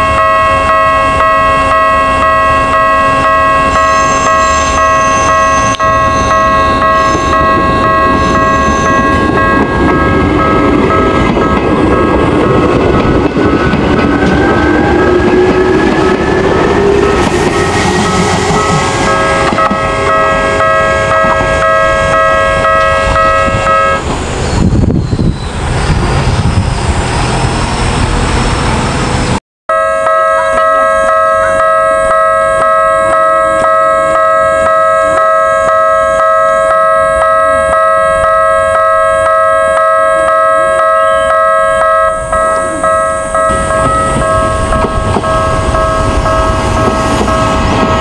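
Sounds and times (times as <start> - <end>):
level crossing warning bell: 0.0 - 24.0, 29.7 - 48.0.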